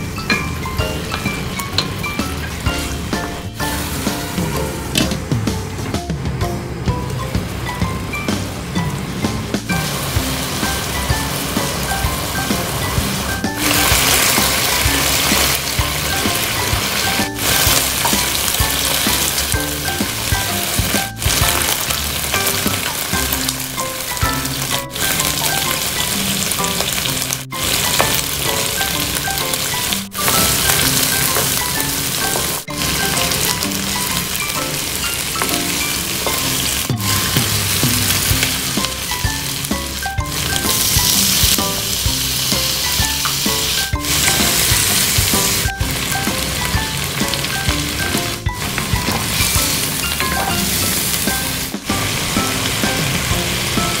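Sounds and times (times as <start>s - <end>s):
chicken sizzling in oil: 0.0s - 5.0s, 7.2s - 54.0s.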